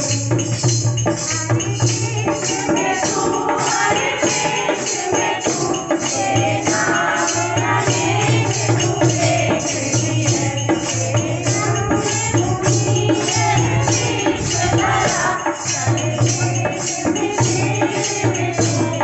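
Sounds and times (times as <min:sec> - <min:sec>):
hand drum: 0:00.0 - 0:19.0
jingling hand percussion: 0:00.0 - 0:19.0
women singing together: 0:00.0 - 0:19.0.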